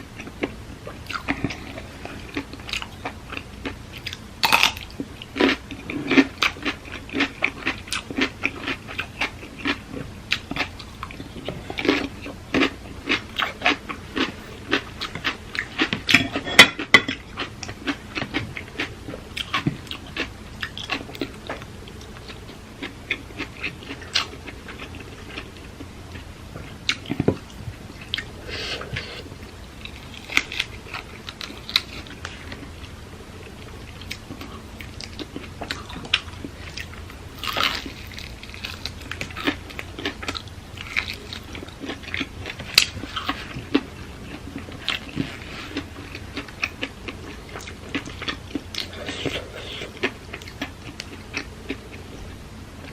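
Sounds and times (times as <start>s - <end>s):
chewing and crunching food: 0.0s - 52.9s.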